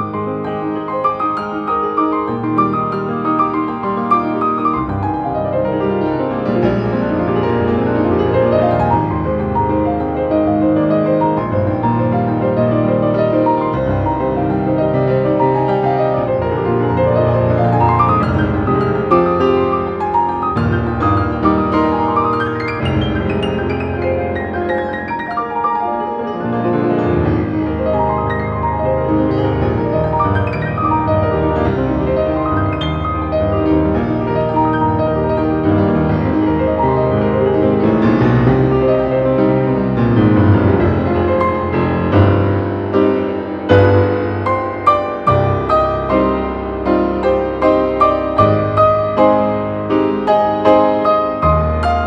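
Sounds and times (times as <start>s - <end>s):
grand piano piece: 0.0s - 52.0s.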